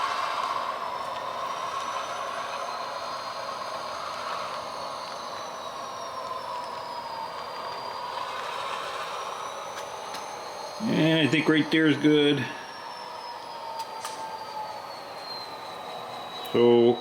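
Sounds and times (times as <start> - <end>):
diesel engine sound from small speaker: 0.0 - 17.0
thin motor whine: 0.0 - 17.0.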